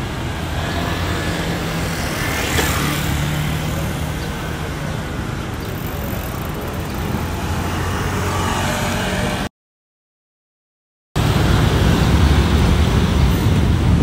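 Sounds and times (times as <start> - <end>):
cars and scooters passing: 0.0 - 9.5, 11.2 - 14.0.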